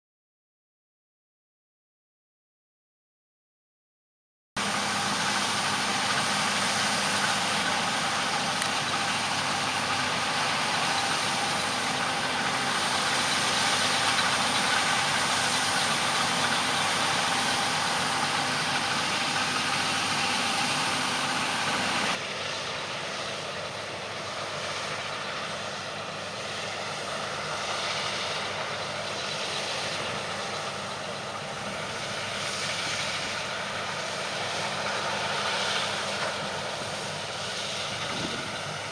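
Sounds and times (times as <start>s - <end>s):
harvest machinery engine drone: 4.6s - 38.9s.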